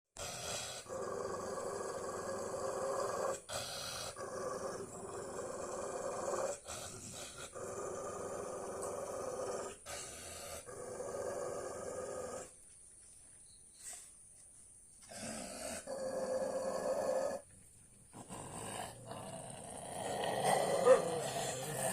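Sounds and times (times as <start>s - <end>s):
dog growling: 0.2s - 12.5s, 15.1s - 17.5s, 18.1s - 21.9s.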